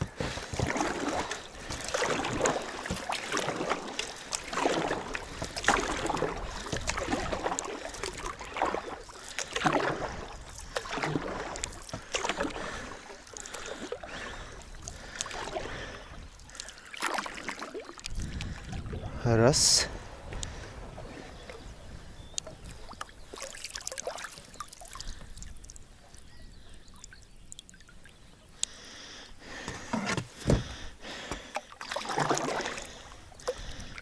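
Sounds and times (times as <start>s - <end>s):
oars splashing and dripping: 0.0s - 34.0s.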